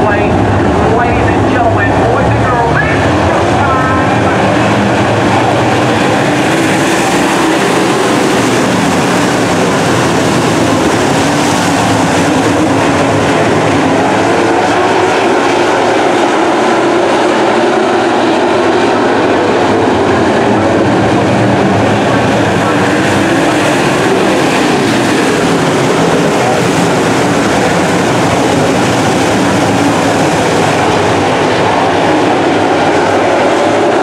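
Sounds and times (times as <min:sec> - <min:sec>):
race car engines roaring: 0:00.0 - 0:34.0.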